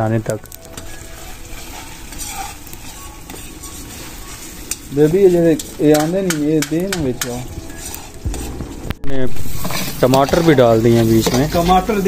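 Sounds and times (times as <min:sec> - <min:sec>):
food sizzling in a wok: 0:00.5 - 0:12.0.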